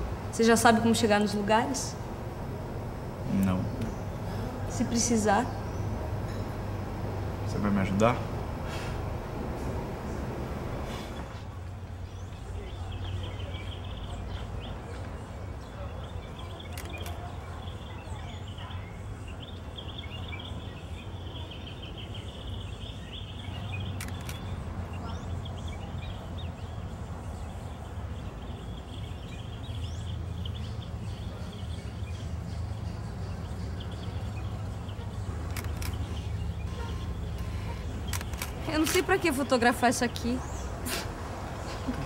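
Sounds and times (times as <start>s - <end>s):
birds chirping: 0.0s - 42.0s
distant traffic rumble: 0.0s - 42.0s.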